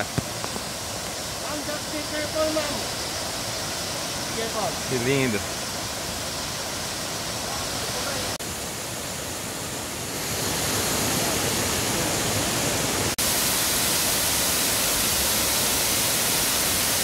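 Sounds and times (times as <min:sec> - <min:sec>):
waterfall pouring into pool: 0:00.0 - 0:08.8, 0:10.2 - 0:17.0.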